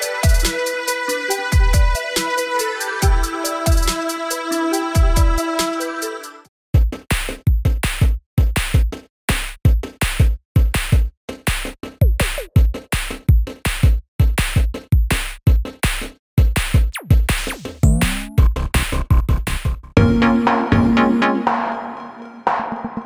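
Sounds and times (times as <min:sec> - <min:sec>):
electronic music with drum-machine beat: 0:00.0 - 0:09.0, 0:09.6 - 0:23.0.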